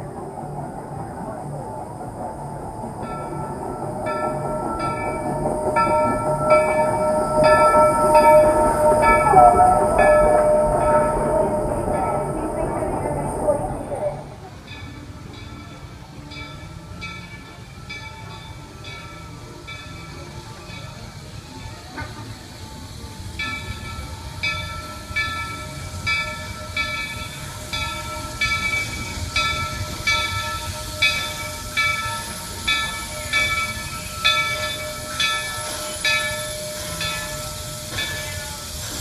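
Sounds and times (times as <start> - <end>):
train rumble and hiss: 0.0 - 39.0
locomotive bell ringing: 0.2 - 39.0.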